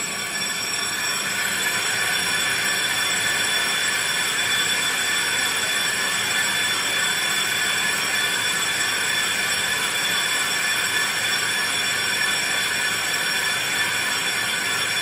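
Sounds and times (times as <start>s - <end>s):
lathe cutting metal whine: 0.0s - 15.0s.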